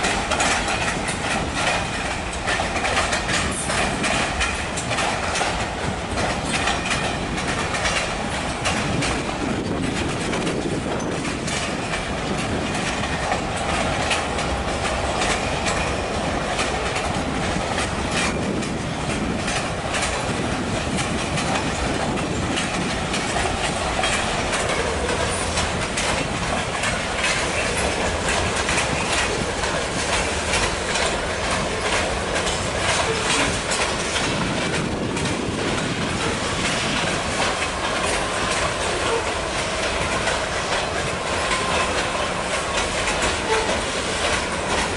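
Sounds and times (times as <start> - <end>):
train rumbling on track: 0.0 - 44.9
train wheels clicking over rail joints: 0.0 - 44.9.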